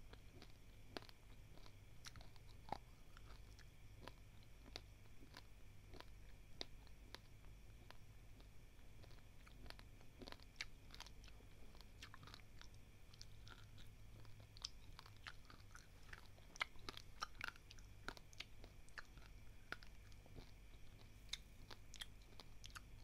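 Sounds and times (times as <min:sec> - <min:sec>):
chewing dry rice crunches: 0:00.0 - 0:23.0.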